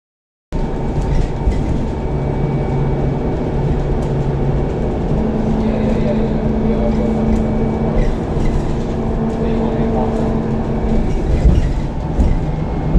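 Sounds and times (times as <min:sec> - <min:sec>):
low rumble with hum: 0:00.6 - 0:12.9.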